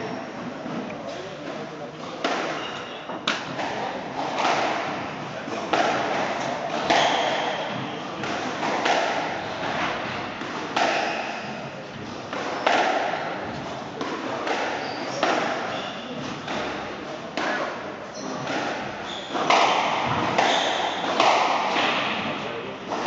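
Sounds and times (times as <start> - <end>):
squash ball hits: 2.2 - 23.0.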